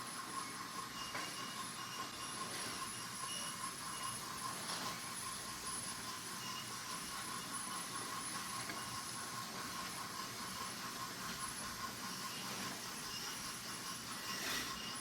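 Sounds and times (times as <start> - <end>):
toy train motors whirring: 0.0 - 15.0
toy train wheels rolling: 0.0 - 15.0.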